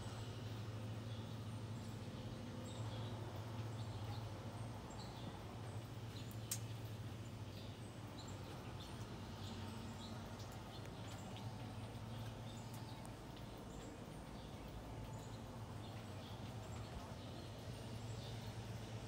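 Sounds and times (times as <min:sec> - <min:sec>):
low steady hum: 0:00.0 - 0:19.0
small birds chirping: 0:00.0 - 0:19.0.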